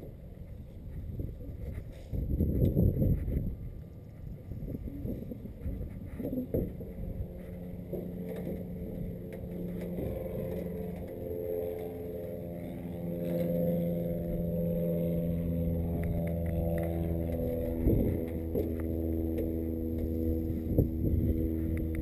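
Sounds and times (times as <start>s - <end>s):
piston aircraft engine running: 0.0s - 22.0s.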